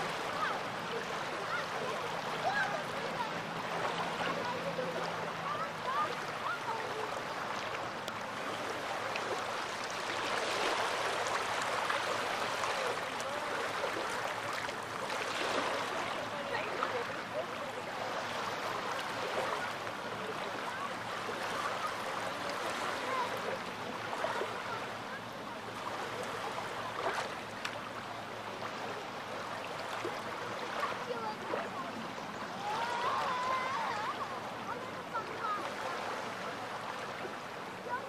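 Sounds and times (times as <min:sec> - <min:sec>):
faint distant voices: 0:00.0 - 0:38.0
small waves lapping on a beach: 0:00.0 - 0:38.0.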